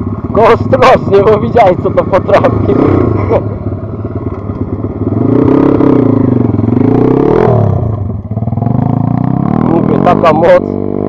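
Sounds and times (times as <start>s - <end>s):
small motorbike engine revving: 0.7s - 3.6s, 4.3s - 11.0s.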